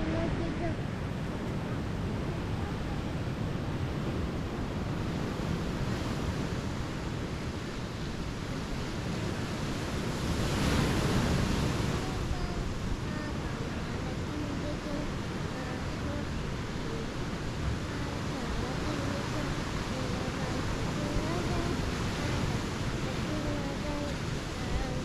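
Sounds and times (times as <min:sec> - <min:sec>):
ocean waves washing onto beach: 0:00.0 - 0:25.0
wind rumble on microphone: 0:00.0 - 0:25.0.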